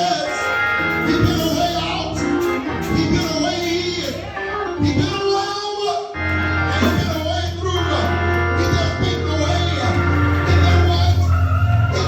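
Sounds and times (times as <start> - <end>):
gospel music with voices singing: 0.0 - 12.0.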